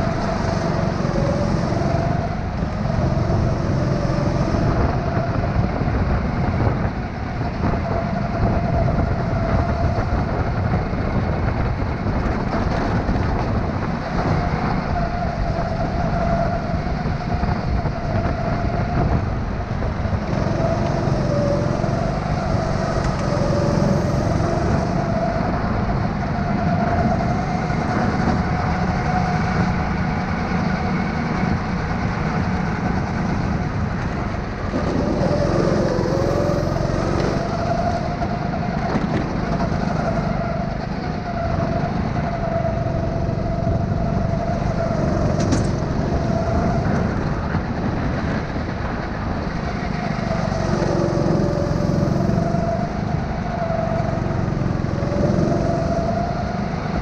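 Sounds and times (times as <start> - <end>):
go-kart engine drone: 0.0 - 57.0.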